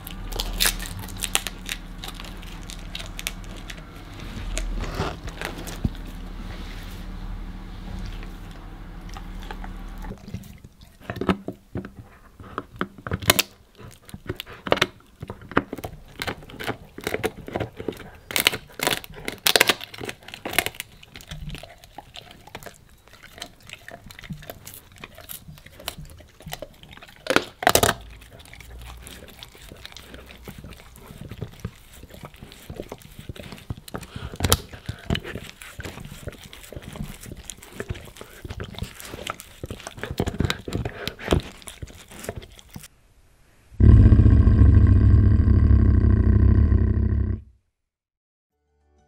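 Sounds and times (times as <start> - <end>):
dog crunching hard chew: 0.0 - 6.4, 7.8 - 42.9.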